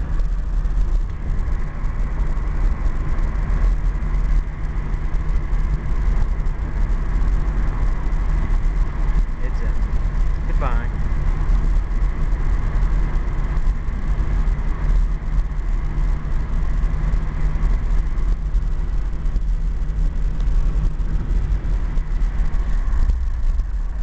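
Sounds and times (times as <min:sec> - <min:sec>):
car engine droning inside cabin: 0:00.0 - 0:24.0
road noise: 0:00.0 - 0:24.0.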